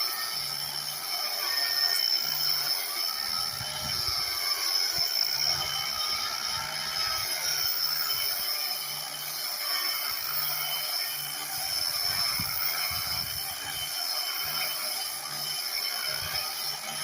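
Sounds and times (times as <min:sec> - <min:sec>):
angle grinder whining: 0:00.0 - 0:17.0.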